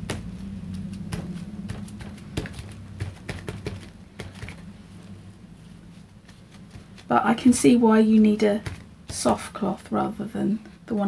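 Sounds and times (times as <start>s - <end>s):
tissue dabbing on board: 0.0s - 10.1s
low steady hum: 0.0s - 11.0s.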